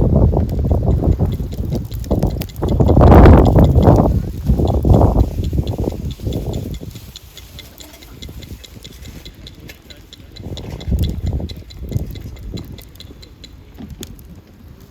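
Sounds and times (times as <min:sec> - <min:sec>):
bonfire crackling and snapping: 0:00.0 - 0:08.0, 0:10.9 - 0:14.9
low rumbles: 0:00.0 - 0:14.9
high even chirps: 0:00.8 - 0:13.7.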